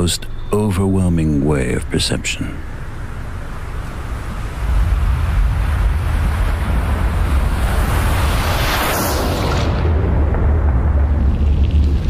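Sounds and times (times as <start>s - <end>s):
ocean waves rumbling: 0.0s - 12.0s.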